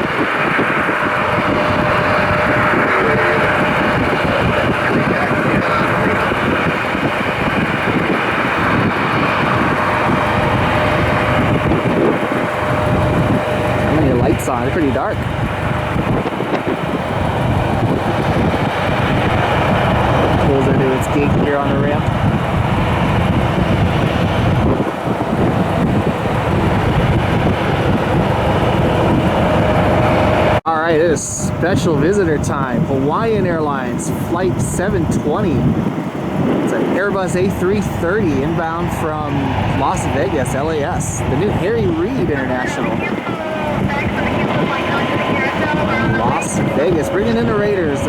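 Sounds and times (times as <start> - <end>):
jet engines running: 0.0 - 48.0
wind buffeting microphone: 0.0 - 48.0.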